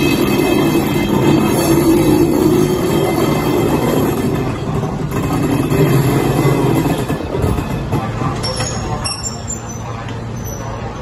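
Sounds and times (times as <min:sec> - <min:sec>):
locomotive wheels on rails: 0:00.0 - 0:11.0.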